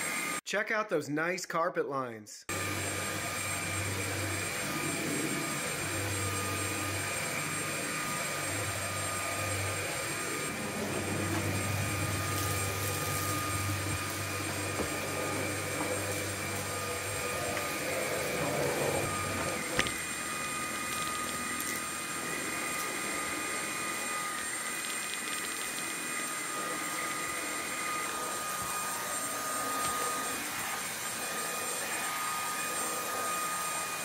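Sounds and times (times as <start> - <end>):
brush head humming on hard floor: 2.5 - 34.0
stick vacuum motor whine: 2.5 - 34.0.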